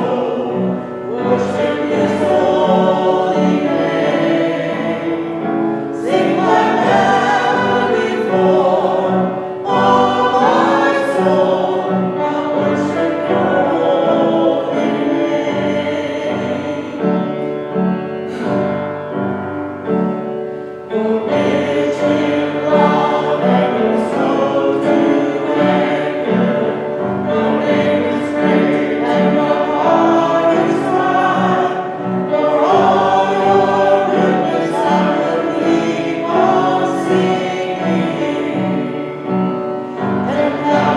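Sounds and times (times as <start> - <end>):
group singing worship song: 0.0 - 19.0, 19.9 - 40.9.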